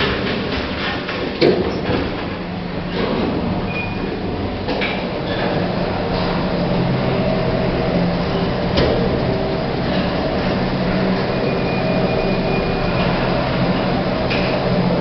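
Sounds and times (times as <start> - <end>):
lift motor hum: 0.0 - 15.0.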